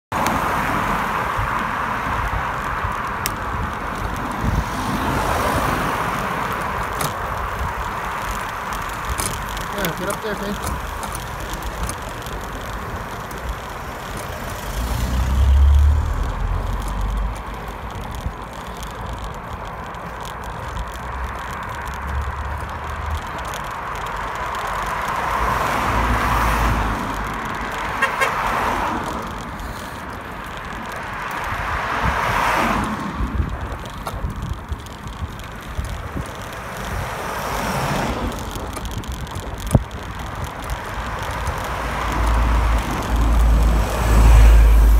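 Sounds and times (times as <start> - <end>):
cars passing: 0.0 - 44.9
wind rumbling on microphone: 0.1 - 44.9.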